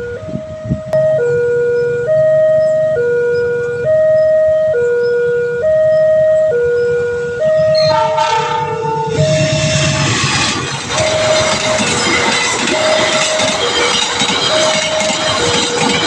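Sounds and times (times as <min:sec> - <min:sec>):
two-tone level crossing siren: 0:00.0 - 0:16.0.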